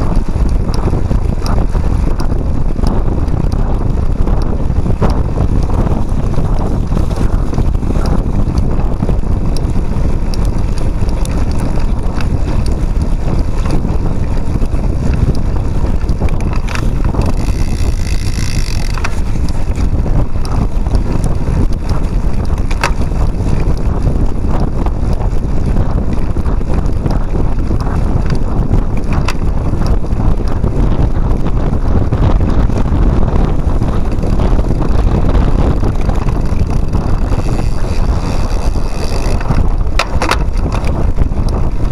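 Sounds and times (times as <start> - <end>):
bike rattling over bumps: 0.0 - 41.9
steady low rumble: 0.0 - 41.9
wind buffeting microphone: 0.0 - 41.9.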